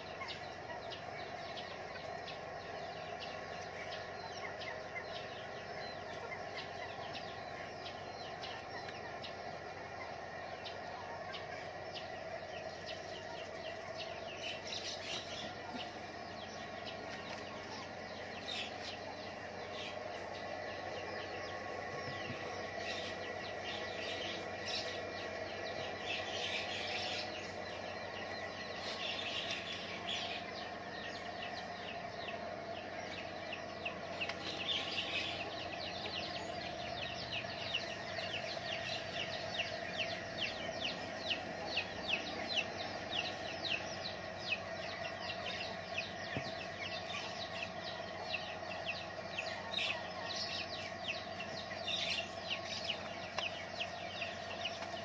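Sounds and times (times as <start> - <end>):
background hum: 0.0 - 55.0
small birds chirping and twittering: 0.0 - 55.0.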